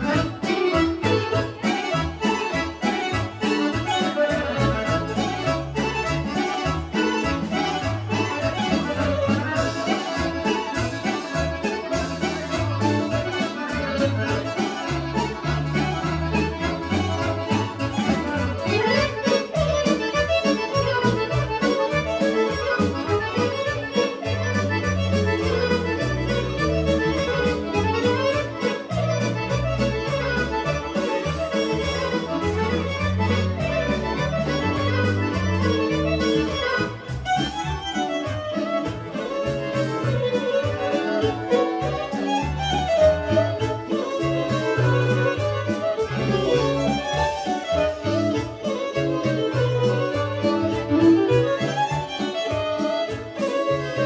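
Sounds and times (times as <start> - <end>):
accordion melody: 0.0 - 54.0
violin: 0.0 - 54.0.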